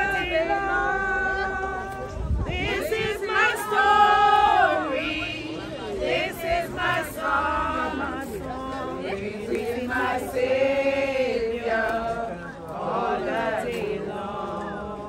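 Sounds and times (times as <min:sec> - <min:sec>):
crowd singing together: 0:00.0 - 0:15.0.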